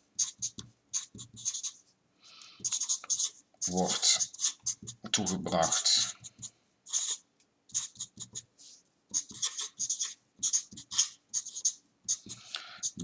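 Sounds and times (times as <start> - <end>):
marker scratching on paper: 0.0 - 1.8, 2.6 - 13.0.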